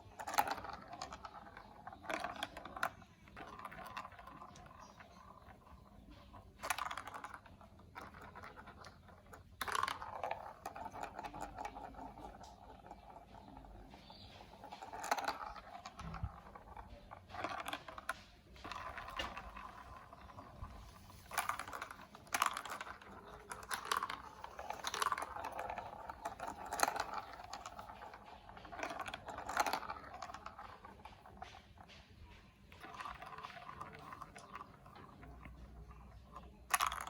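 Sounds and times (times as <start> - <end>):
plastic blocks clicking and rattling: 0.0 - 37.0.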